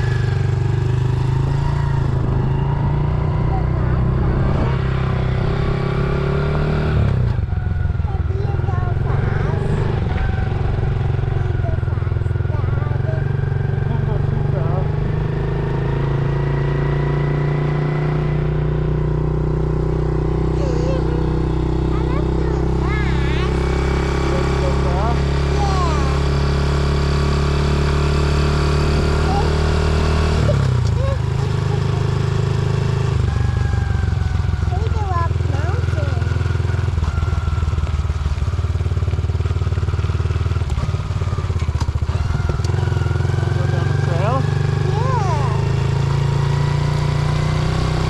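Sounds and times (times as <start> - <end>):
dirt bike engine running: 0.0 - 48.0.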